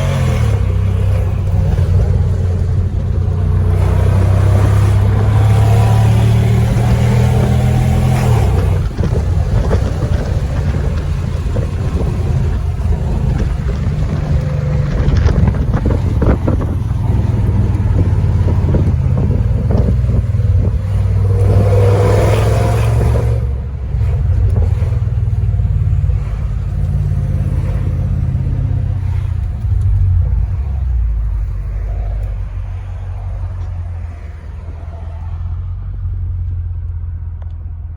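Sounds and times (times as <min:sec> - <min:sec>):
car engine heard from inside cabin: 0:00.0 - 0:37.9.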